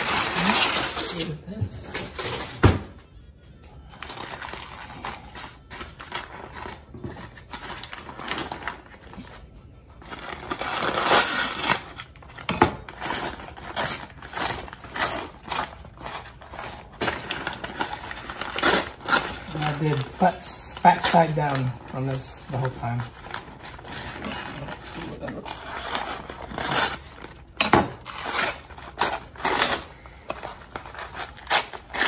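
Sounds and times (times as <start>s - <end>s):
paper rustling and crinkling: 3.9s - 32.0s.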